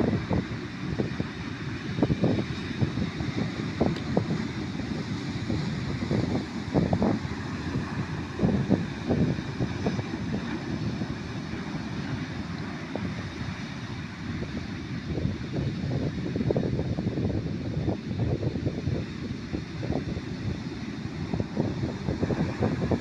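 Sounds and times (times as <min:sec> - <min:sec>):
ocean surf: 0:00.0 - 0:16.4, 0:18.5 - 0:23.0
wind buffeting microphone: 0:00.0 - 0:23.0.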